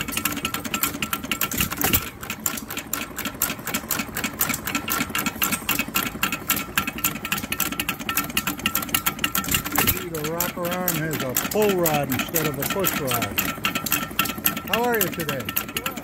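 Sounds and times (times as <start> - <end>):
stationary gas engine running: 0.0 - 16.0
valve gear clattering clicks: 0.0 - 16.0.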